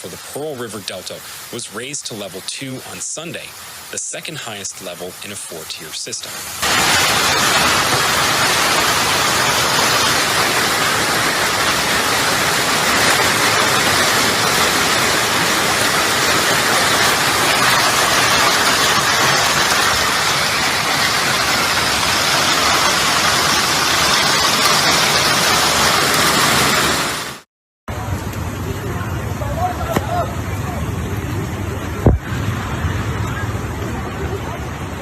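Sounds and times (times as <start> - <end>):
water rushing: 0.0 - 35.0.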